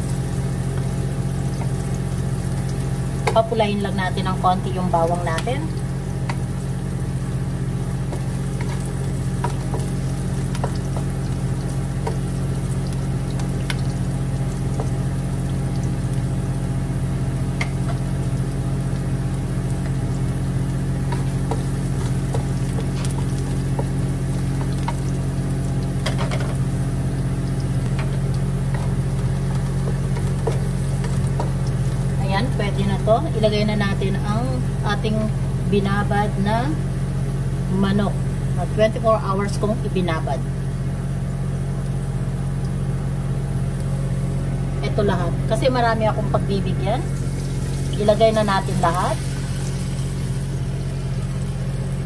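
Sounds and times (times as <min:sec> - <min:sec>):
onion and garlic sizzling in oil: 0:00.0 - 0:52.0
steady low hum: 0:00.0 - 0:52.0.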